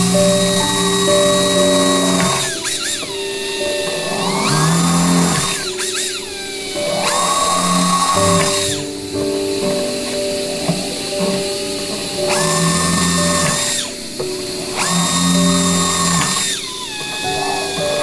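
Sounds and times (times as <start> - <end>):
power drill cutting into metal: 0.0 - 8.9, 10.4 - 14.0, 14.7 - 18.0
background music: 0.0 - 18.0.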